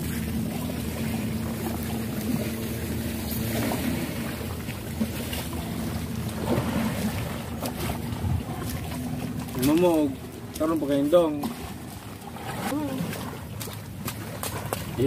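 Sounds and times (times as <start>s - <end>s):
engine running steadily: 0.0s - 15.0s
wash of noise: 0.0s - 15.0s.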